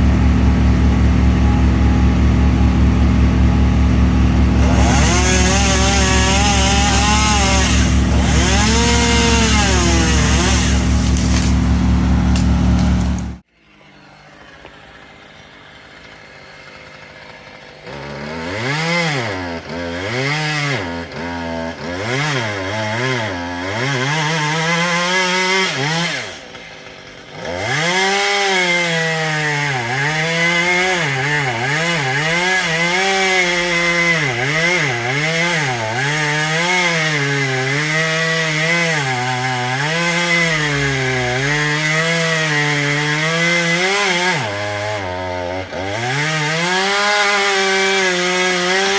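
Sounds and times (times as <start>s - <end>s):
chainsaw cutting wood: 0.0s - 13.5s, 14.4s - 48.9s.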